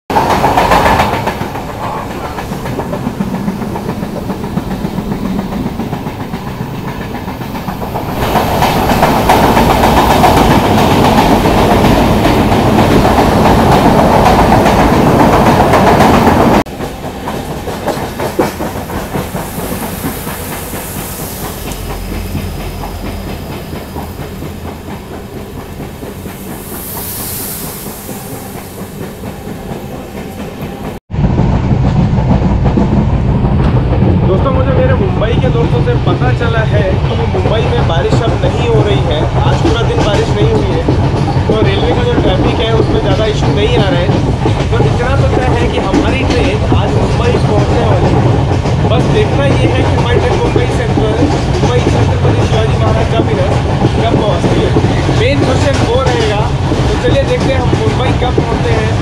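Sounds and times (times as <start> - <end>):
train wheels clattering over rails: 0.1 - 59.0.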